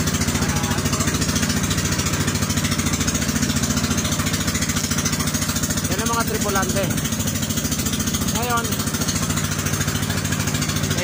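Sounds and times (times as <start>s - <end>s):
boat engine running: 0.0s - 11.0s
sea water splashing: 0.0s - 11.0s.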